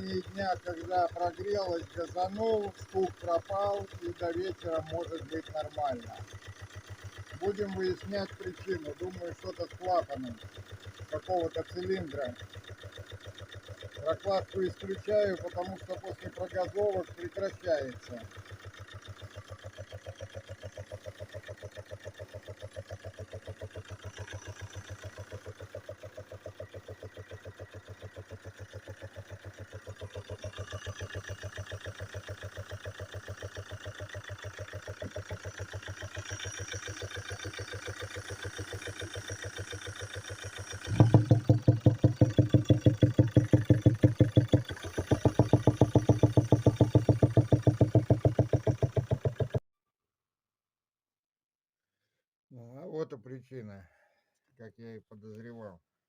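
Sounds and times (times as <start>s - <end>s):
diesel engine idling with knock: 0.0s - 49.6s.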